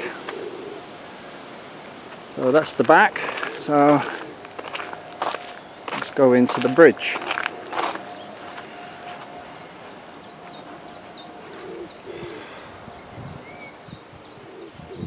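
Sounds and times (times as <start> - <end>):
pigeon-like bird cooing: 0.0 - 1.2, 3.1 - 6.6, 7.2 - 15.0.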